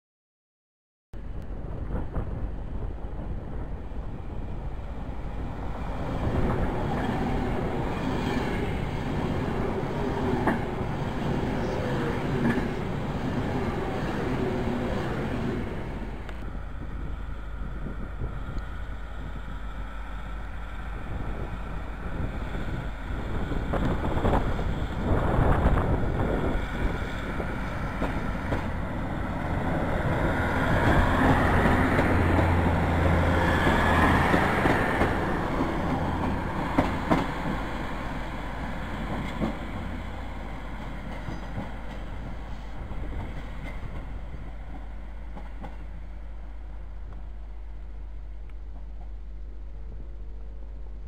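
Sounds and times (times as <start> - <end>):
train wheels rumbling: 1.2 - 51.0.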